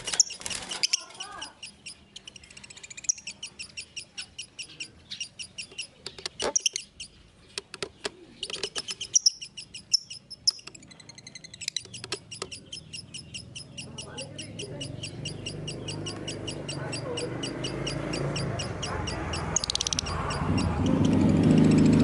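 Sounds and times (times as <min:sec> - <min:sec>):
sharp clicks: 0:00.0 - 0:10.9, 0:11.5 - 0:21.8
lovebird chattering: 0:00.0 - 0:22.0.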